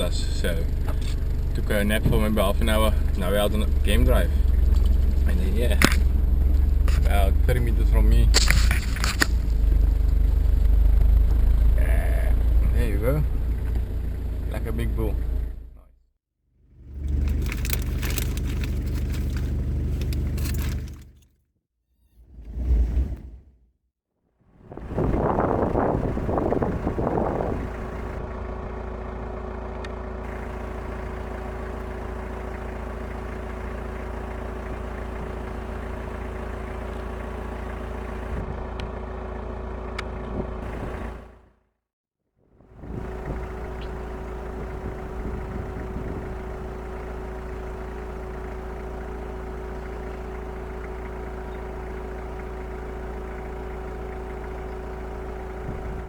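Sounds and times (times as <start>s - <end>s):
car engine idling: 0.0s - 15.9s, 16.6s - 21.2s, 24.5s - 41.6s, 42.5s - 56.0s.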